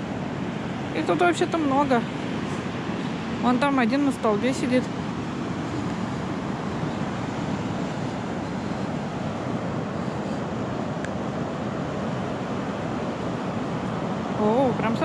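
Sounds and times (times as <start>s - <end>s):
waves breaking on beach: 0.0s - 15.0s
wind on microphone: 0.0s - 15.0s.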